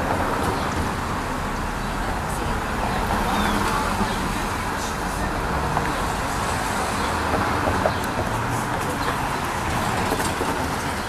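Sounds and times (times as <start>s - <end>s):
hum of passing cars: 0.0s - 11.0s.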